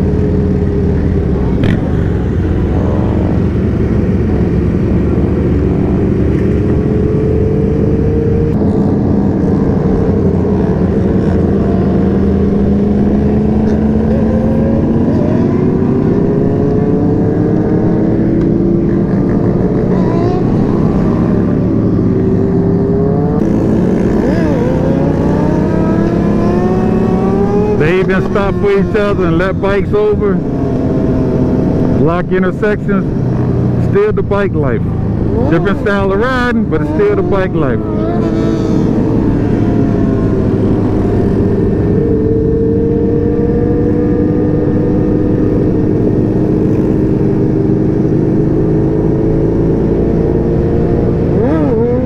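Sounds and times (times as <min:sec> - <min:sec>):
motorcycle engine cruising: 0:00.0 - 0:52.0
motorcycles revving: 0:00.0 - 0:52.0.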